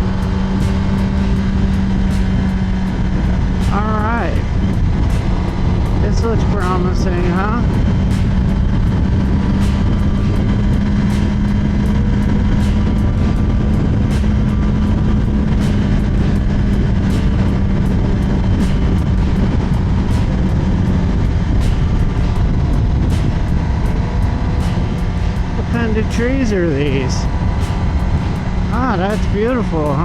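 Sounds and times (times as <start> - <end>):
motorcycle engine cruising: 0.0 - 30.0
wind rushing: 0.0 - 30.0.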